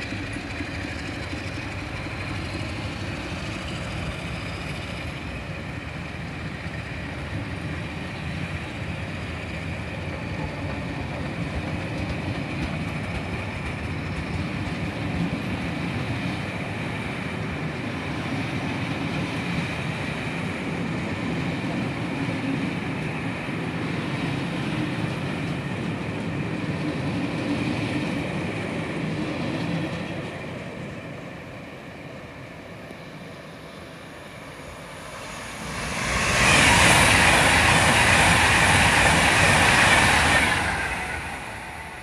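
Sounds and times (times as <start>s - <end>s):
express train rushing by: 0.0s - 42.0s
train coaches rumbling past: 0.0s - 42.0s.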